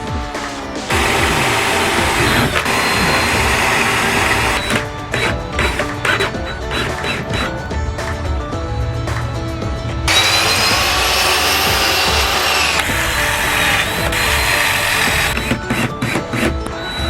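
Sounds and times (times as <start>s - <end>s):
background music: 0.0s - 17.0s
power tool cutting wood: 0.6s - 8.3s, 10.1s - 17.0s.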